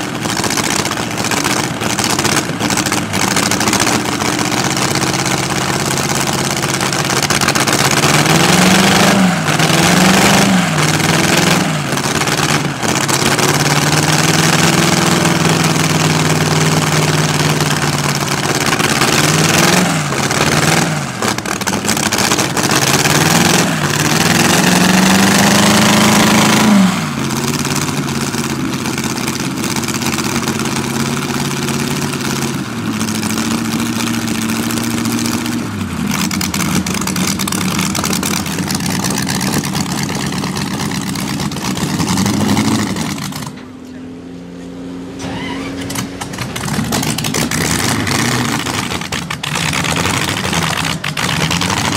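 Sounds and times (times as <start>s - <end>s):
sixteen-cylinder engine idling and revving: 0.0s - 51.9s.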